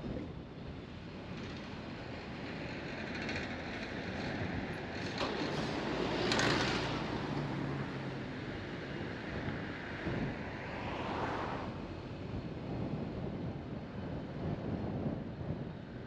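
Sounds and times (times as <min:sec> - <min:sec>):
road and wind noise from car: 0:00.0 - 0:16.0.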